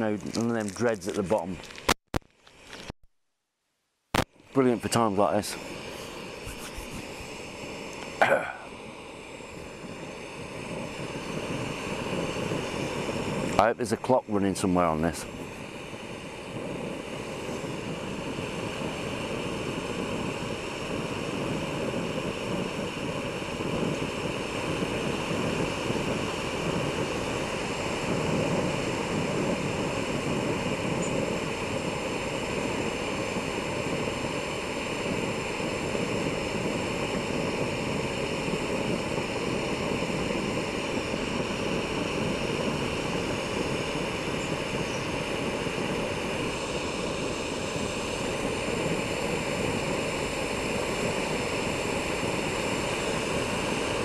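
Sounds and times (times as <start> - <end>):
gas stove hissing: 0.0 - 3.0, 4.2 - 54.0.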